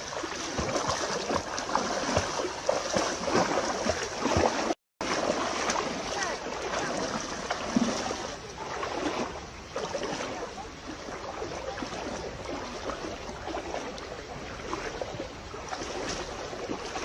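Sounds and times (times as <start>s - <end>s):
feet splashing through shallow water: 0.0s - 17.0s.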